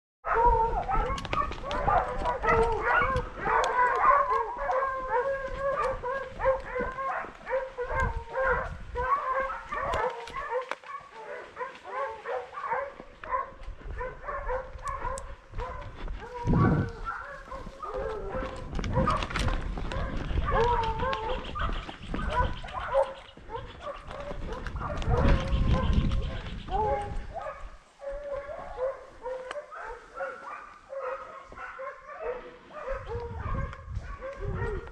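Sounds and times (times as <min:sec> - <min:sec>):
dogs baying and howling: 0:00.2 - 0:34.9.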